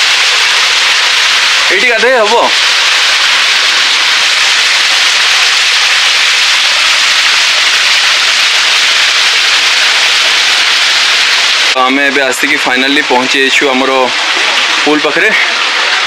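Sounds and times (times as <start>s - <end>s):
waterfall splashing into pool: 0.0s - 16.0s.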